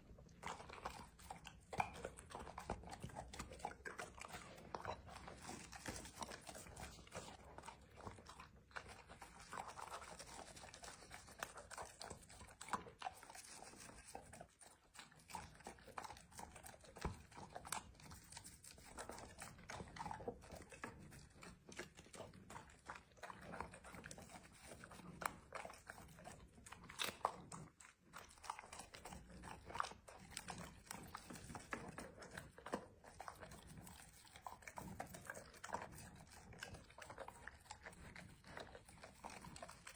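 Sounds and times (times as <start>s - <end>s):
dog chewing and crunching food: 0.0s - 39.9s.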